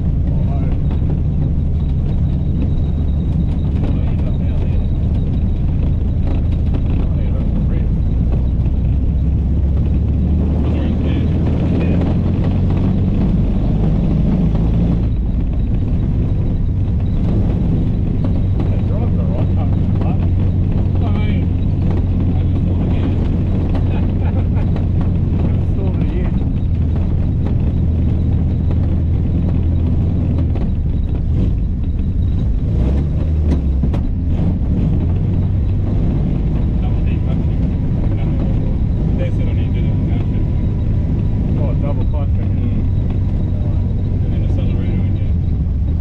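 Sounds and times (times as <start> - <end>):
car engine low rumble: 0.0 - 46.0
road noise: 0.0 - 46.0.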